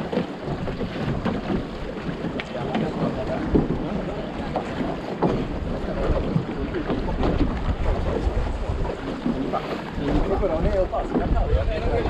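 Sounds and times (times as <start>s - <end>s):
water rushing around hull: 0.0s - 12.0s
wind buffeting microphone: 0.0s - 12.0s.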